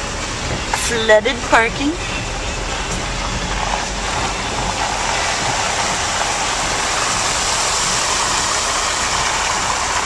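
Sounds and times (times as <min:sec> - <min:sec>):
car moving on flooded road: 0:00.0 - 0:10.0
heavy rain: 0:00.0 - 0:10.0.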